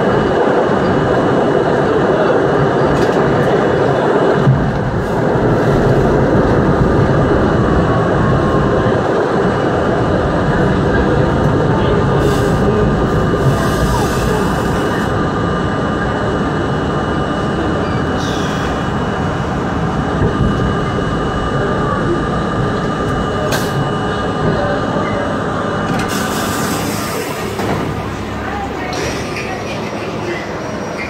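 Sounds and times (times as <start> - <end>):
train wheels rumbling: 0.0 - 31.0.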